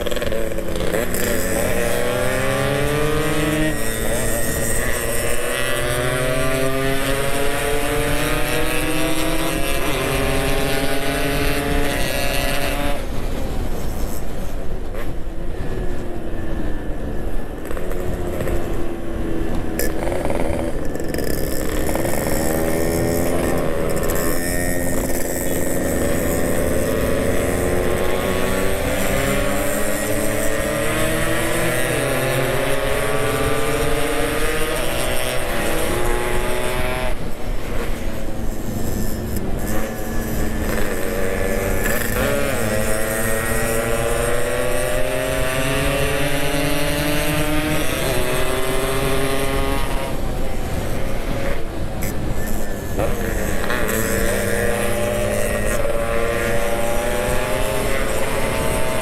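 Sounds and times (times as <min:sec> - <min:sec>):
motorcycle engine revving: 0:00.0 - 0:14.3, 0:17.6 - 0:59.0.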